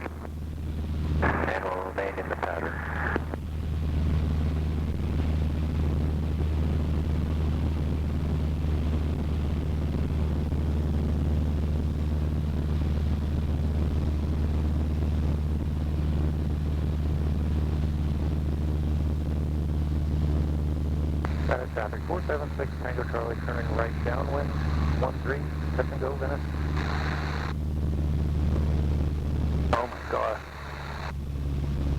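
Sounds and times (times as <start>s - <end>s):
small plane engine and propeller: 0.0s - 31.9s.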